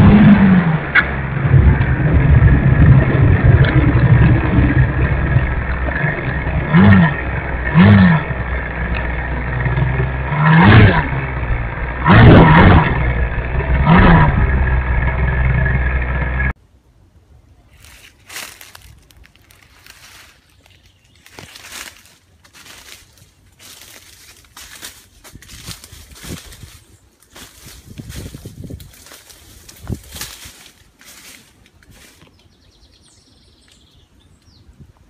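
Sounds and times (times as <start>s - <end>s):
wheels rumbling and rattling: 0.0s - 16.6s, 17.8s - 34.2s.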